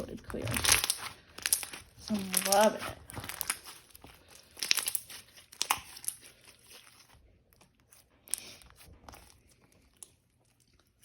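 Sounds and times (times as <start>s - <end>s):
slime crinkling and crackling: 0.0s - 11.0s.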